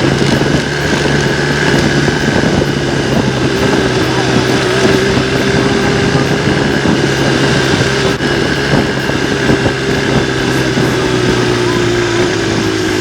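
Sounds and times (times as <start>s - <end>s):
road and wind noise: 0.0s - 13.0s
vehicle engine drone: 0.0s - 13.0s.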